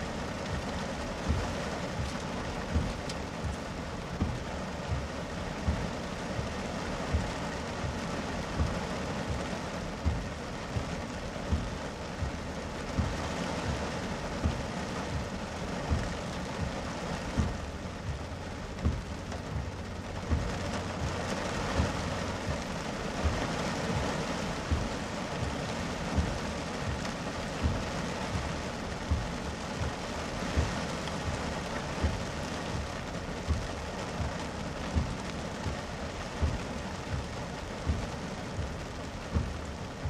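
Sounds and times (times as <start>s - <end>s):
heavy rain on car roof: 0.0s - 40.0s.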